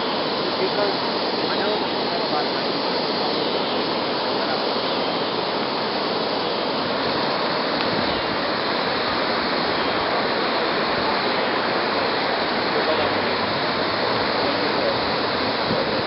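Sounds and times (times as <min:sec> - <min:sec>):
flooded river rushing: 0:00.0 - 0:16.0.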